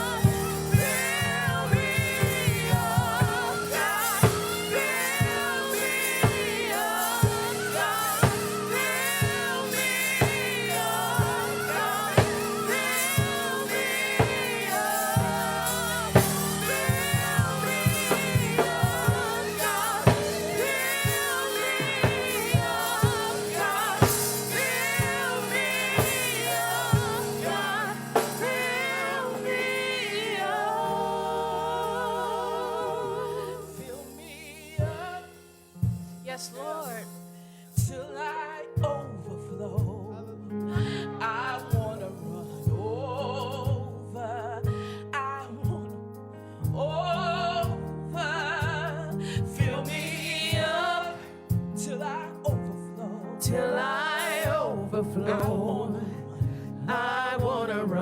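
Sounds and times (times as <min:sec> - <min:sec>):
drum kit: 0:00.0 - 0:39.1, 0:39.8 - 0:58.0
gospel singers: 0:00.0 - 0:58.0.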